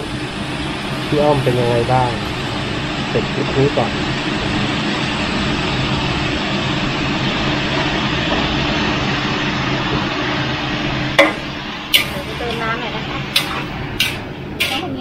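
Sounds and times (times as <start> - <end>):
food stir-frying in wok: 0.0 - 15.0
gas wok burner rushing: 0.0 - 15.0.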